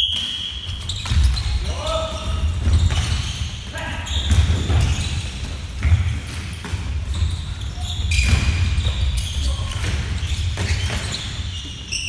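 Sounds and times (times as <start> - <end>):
shoes thudding and squeaking: 0.0 - 12.0.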